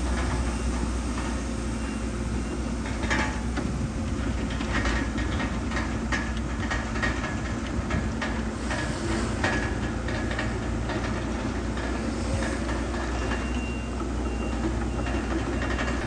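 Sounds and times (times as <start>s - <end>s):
bulldozer diesel engine: 0.0s - 16.0s
metallic clanks of steel tracks: 0.0s - 16.0s.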